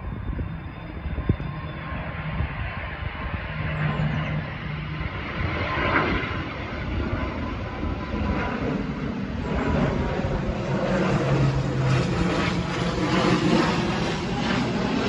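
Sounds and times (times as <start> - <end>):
airliner engines overhead: 0.0 - 15.0
wind on microphone: 0.0 - 15.0.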